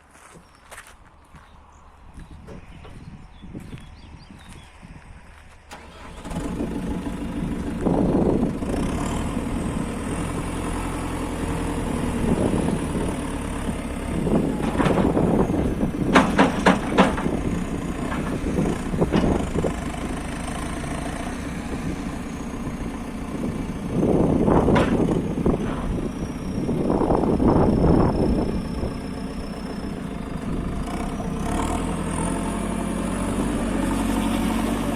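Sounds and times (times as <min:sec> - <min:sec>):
diesel engine starting and running: 0:05.4 - 0:34.9.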